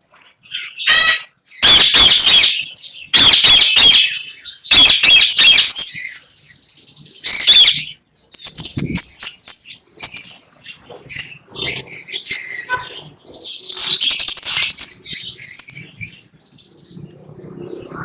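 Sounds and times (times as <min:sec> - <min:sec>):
parakeets calling loudly: 0:00.4 - 0:17.1.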